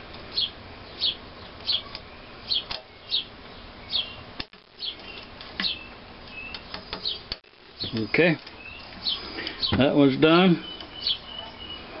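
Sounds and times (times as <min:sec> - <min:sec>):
small bird chirping: 0:00.3 - 0:12.0.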